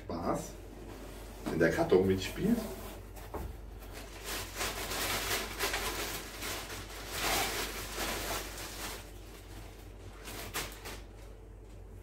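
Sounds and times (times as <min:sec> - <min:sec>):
plastic bag rustling: 0:00.9 - 0:11.4.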